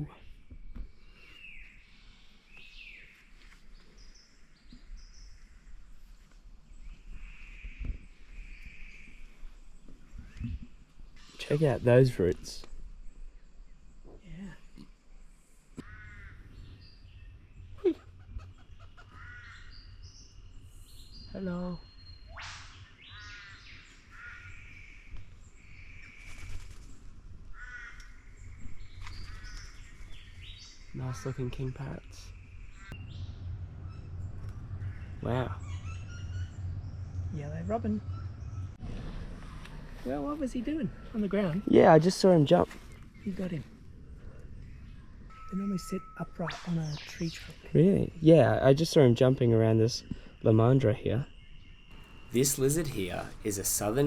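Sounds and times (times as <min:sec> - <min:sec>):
birds calling: 0:06.7 - 0:48.0, 0:51.3 - 0:54.0.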